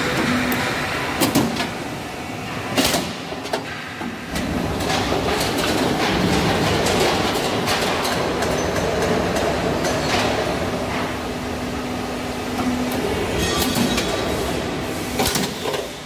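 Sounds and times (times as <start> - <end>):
roll forming machine running: 0.0 - 16.0.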